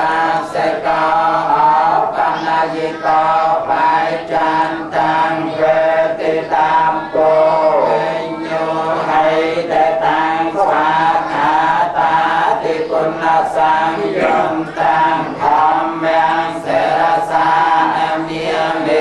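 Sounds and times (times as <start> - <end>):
group chanting prayers in unison: 0.0 - 19.0.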